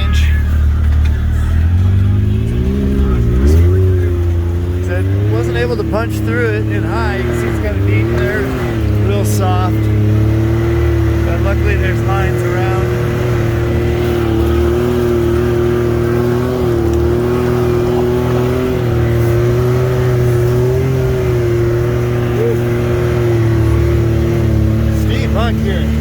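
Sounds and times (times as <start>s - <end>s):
drivetrain whine: 0.0s - 26.0s
engine low rumble: 0.0s - 26.0s.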